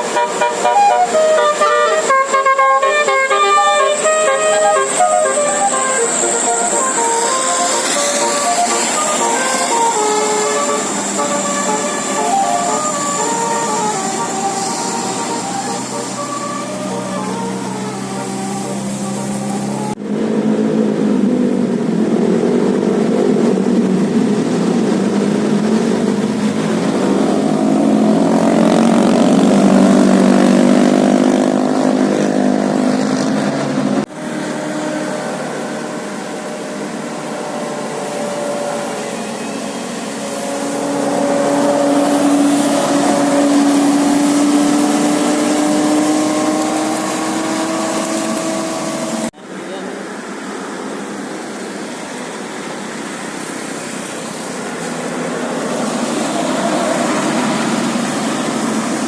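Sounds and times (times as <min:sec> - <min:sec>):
bus engine running and revving: 0:00.0 - 0:59.0.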